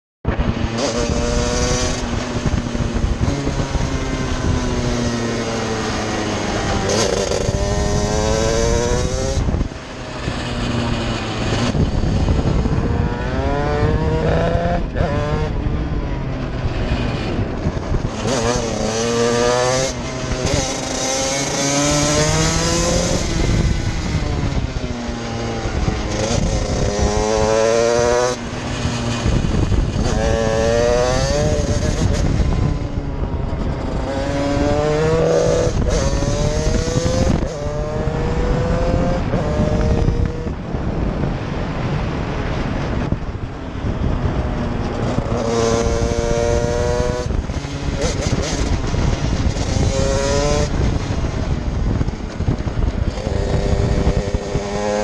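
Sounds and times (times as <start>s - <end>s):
two-stroke kart engine revving: 0.5s - 15.8s, 16.4s - 40.6s, 44.0s - 55.0s.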